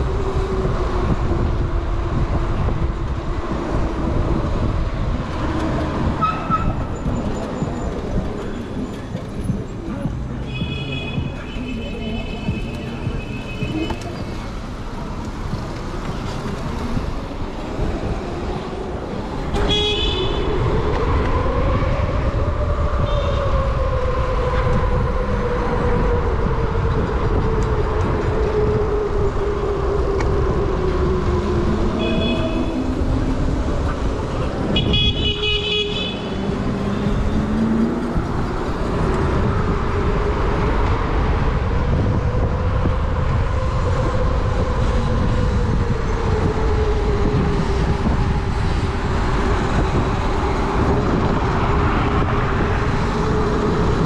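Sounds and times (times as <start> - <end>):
road noise: 0.0 - 54.0
wind rushing over microphone: 0.0 - 54.0.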